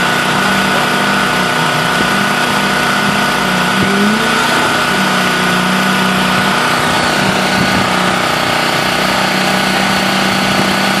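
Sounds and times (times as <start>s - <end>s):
construction machinery engine hum: 0.0s - 11.0s
high-pitched whine: 0.0s - 11.0s.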